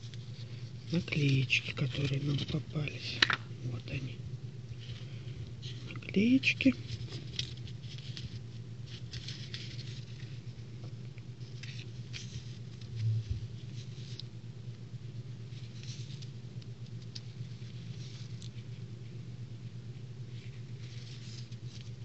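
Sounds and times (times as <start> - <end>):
paper sticker strip rustling: 0.0 - 4.1, 4.8 - 10.6, 11.4 - 14.3, 15.5 - 18.8, 20.3 - 22.0
steady low hum: 0.0 - 22.0.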